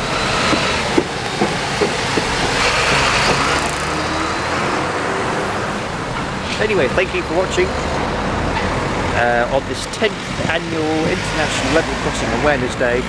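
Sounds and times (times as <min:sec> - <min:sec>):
vehicle passing by: 0:00.0 - 0:12.3.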